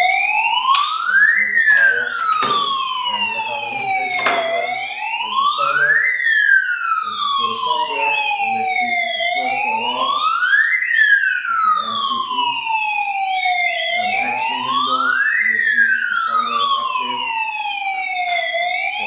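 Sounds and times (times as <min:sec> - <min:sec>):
fire alarm siren wailing: 0:00.0 - 0:19.0.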